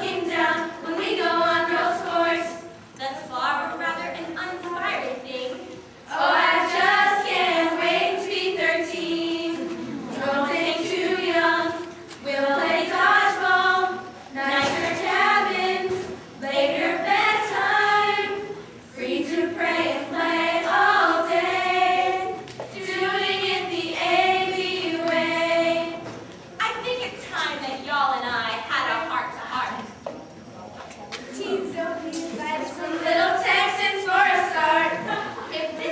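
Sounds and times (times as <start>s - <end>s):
girls singing a cappella: 0.0s - 26.3s, 31.3s - 35.9s.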